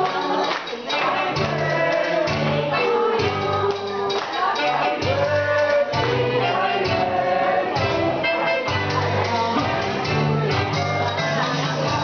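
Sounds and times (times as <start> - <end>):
music with singing voices: 0.0 - 12.0
steady bass line: 1.2 - 12.0.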